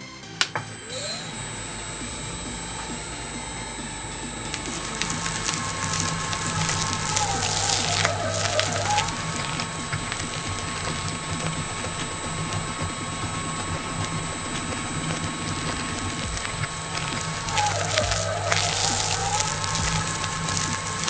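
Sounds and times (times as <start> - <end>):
high mechanical whine: 0.0 - 21.0
industrial shredder grinding: 0.4 - 21.0.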